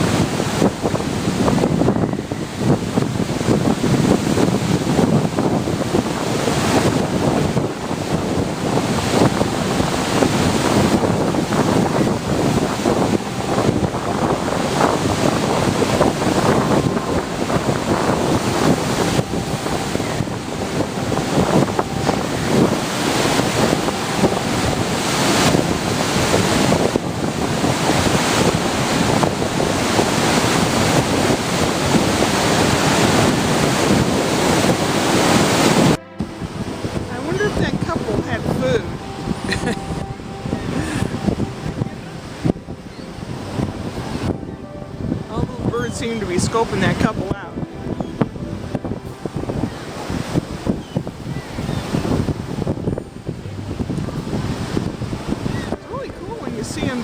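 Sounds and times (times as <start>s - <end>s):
ocean surf washing: 0.0s - 57.0s
wind buffeting microphone: 0.0s - 57.0s.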